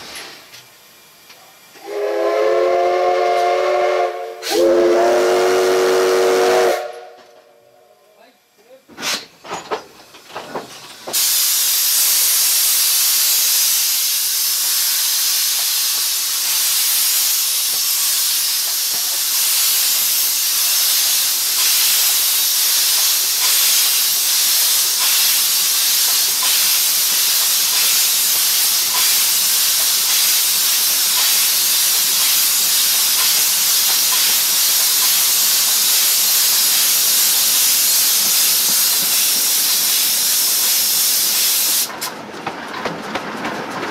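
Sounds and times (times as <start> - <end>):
steam hissing: 0.0 - 42.1.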